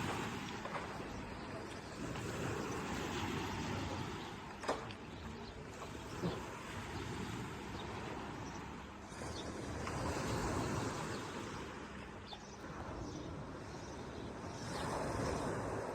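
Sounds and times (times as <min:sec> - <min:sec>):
waves washing onto shore: 0:00.0 - 0:15.9.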